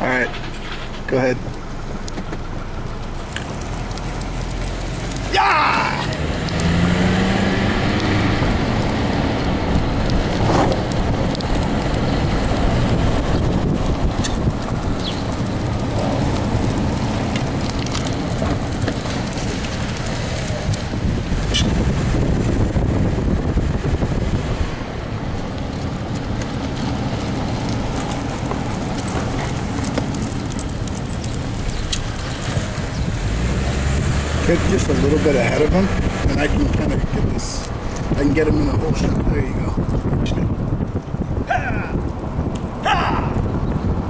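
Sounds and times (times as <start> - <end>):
wheels rolling over ground: 0.0 - 44.0
wind on microphone: 5.8 - 44.0.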